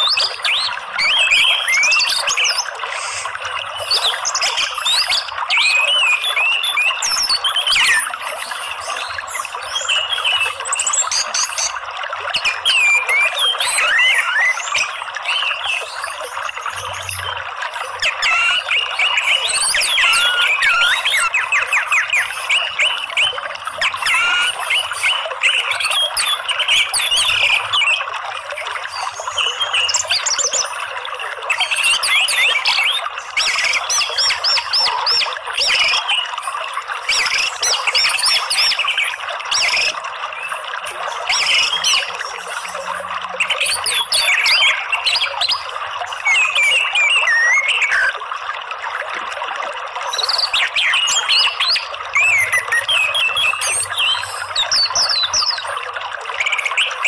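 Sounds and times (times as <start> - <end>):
bird singing warbling phrases: 0.0 - 48.2, 50.0 - 57.0.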